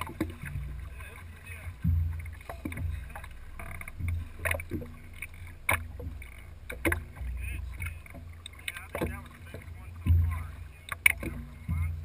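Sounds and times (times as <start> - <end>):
steady low rumble: 0.0 - 12.0
water splashing: 0.0 - 12.0.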